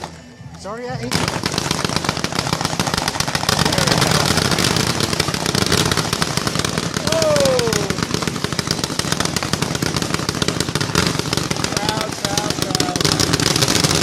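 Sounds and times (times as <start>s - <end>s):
firecrackers crackling: 0.0s - 14.0s.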